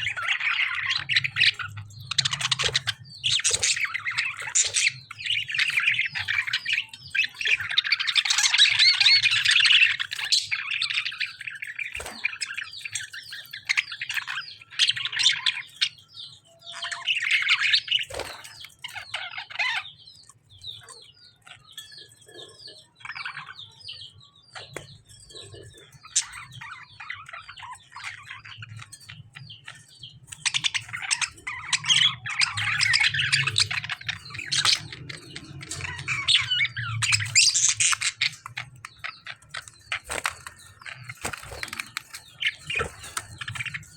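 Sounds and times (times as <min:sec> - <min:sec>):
birds chattering and squawking: 0:00.0 - 0:43.9.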